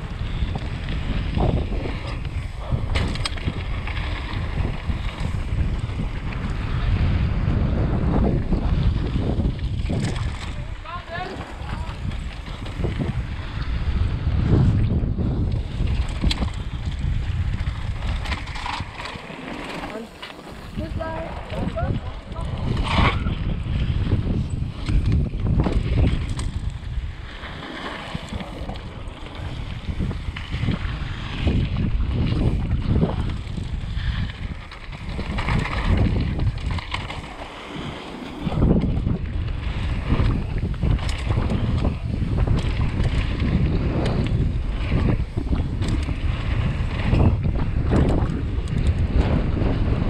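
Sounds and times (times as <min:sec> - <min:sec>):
bike rattling and clicking: 0:00.0 - 0:50.0
bike tyres rolling over gravel: 0:00.0 - 0:50.0
wind rushing over microphone: 0:00.0 - 0:50.0.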